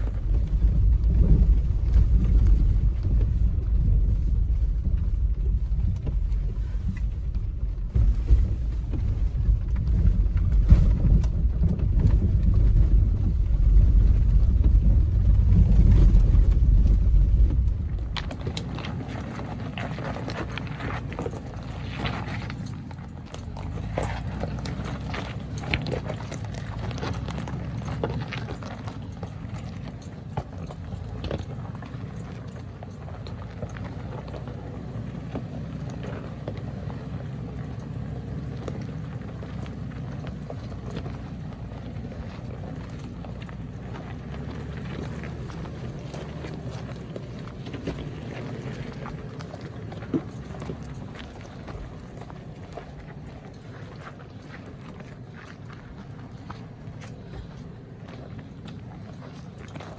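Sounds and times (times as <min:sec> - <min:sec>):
rocks crunching under tyres: 0:00.0 - 0:59.9
vehicle engine low rumble: 0:00.0 - 0:59.9.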